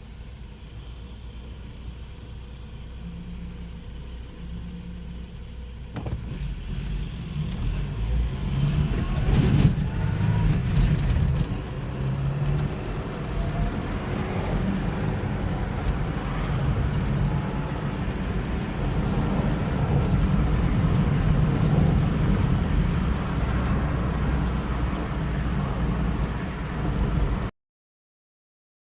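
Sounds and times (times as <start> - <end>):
road noise: 0.0 - 27.5
truck engine accelerating: 2.0 - 27.5.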